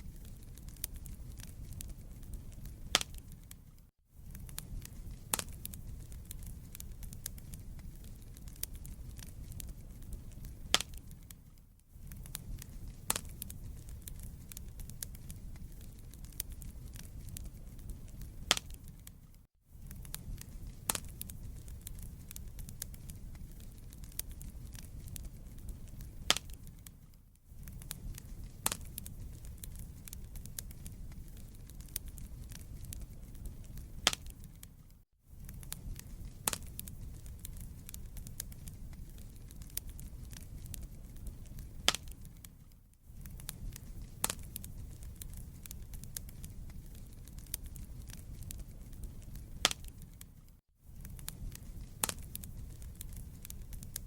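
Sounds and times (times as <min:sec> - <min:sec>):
fire crackles and pops: 0:00.0 - 0:54.0
wood fire flames rumbling: 0:00.0 - 0:54.0.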